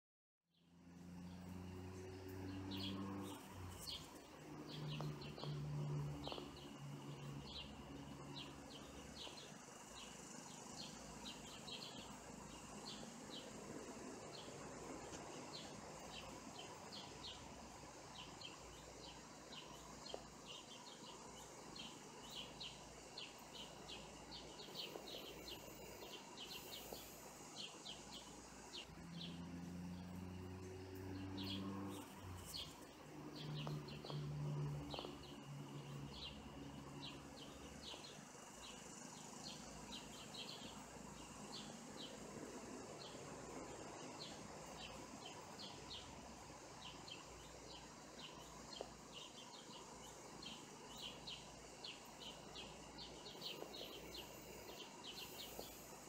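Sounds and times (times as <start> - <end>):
songbirds chirping: 0.6 - 56.0
faint high hiss: 2.0 - 56.0.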